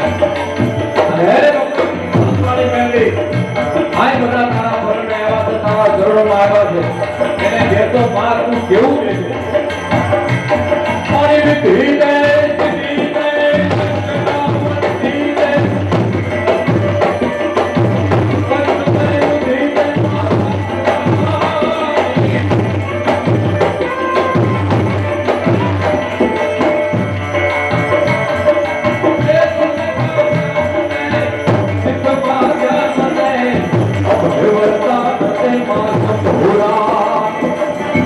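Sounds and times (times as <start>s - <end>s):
devotional folk music: 0.0s - 38.0s
steady drum beat: 0.0s - 38.0s.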